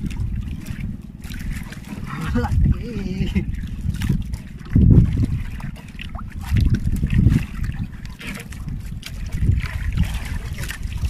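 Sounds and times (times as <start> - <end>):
low rumble: 0.0 - 11.0
water lapping against boat hull: 0.0 - 11.0.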